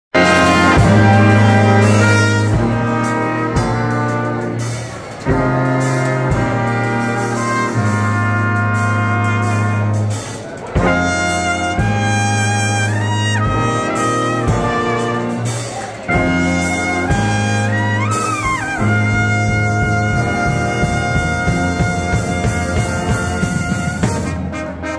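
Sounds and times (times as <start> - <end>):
brass band playing: 0.1 - 24.9.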